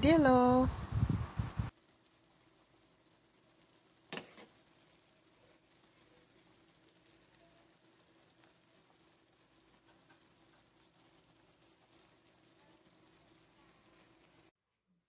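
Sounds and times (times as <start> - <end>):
food simmering faintly: 0.0 - 15.0.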